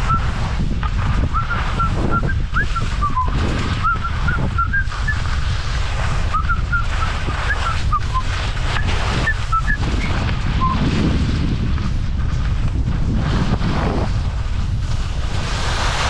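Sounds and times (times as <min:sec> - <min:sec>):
skis scraping over snow: 0:00.0 - 0:16.0
wind on microphone: 0:00.0 - 0:16.0.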